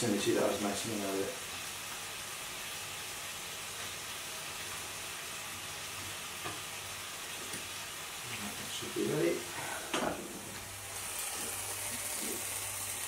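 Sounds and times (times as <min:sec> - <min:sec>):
liquid sizzling in a hot pan: 0:00.0 - 0:13.0.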